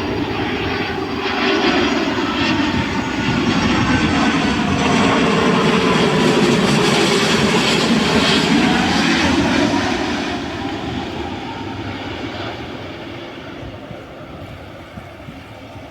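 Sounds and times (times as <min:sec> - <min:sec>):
jet engines of landing airliner: 0:00.0 - 0:15.9.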